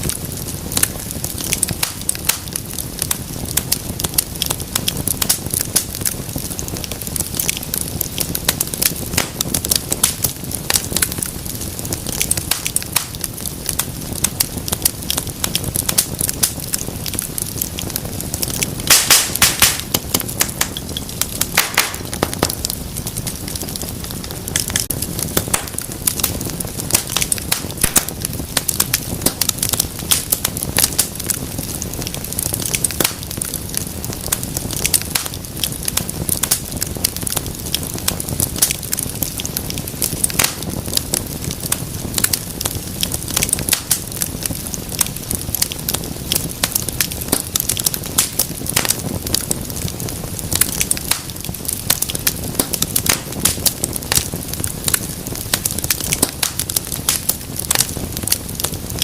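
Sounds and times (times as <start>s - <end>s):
fire crackling and popping: 0.0s - 59.0s
wood fire rumbling: 0.0s - 59.0s.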